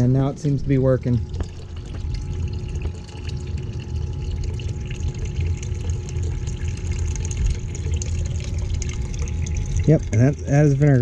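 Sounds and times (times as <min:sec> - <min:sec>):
small pump running: 0:00.0 - 0:11.0
liquid splashing into bucket: 0:00.4 - 0:11.0.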